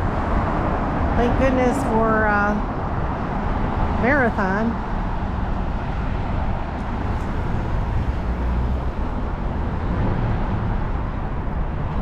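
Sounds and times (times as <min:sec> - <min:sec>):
road noise: 0:00.0 - 0:12.0
vehicle rumbling: 0:00.0 - 0:12.0.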